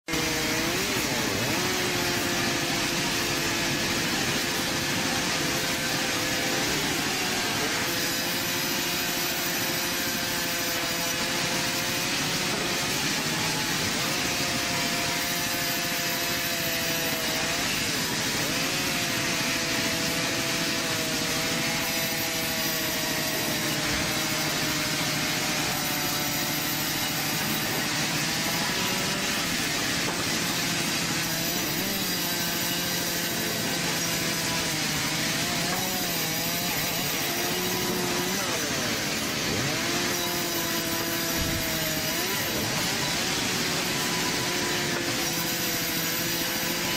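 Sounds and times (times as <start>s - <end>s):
band saw cutting through log: 0.0s - 46.9s.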